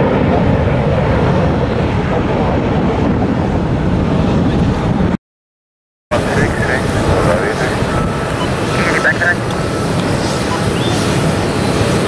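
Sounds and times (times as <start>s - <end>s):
jet engines rumbling: 0.0s - 5.2s, 6.1s - 12.0s
wind buffeting microphone: 0.0s - 5.2s, 6.1s - 12.0s.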